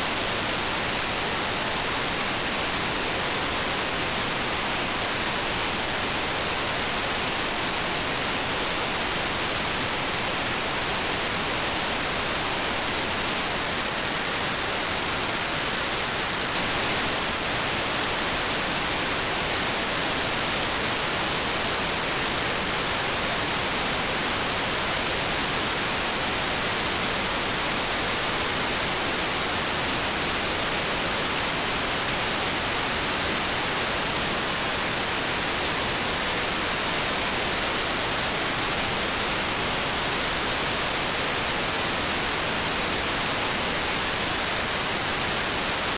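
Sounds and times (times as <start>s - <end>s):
radio static hiss: 0.0s - 45.9s.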